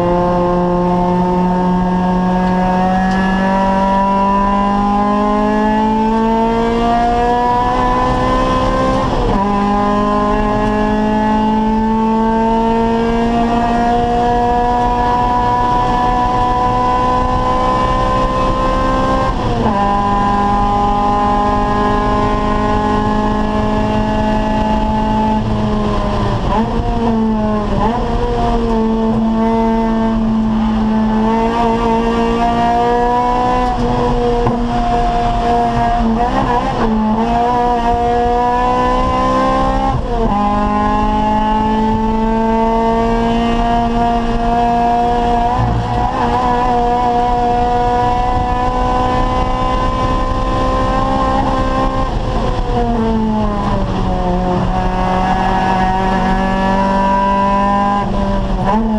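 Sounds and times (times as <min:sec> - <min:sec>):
race car engine accelerating: 0:00.0 - 0:58.9.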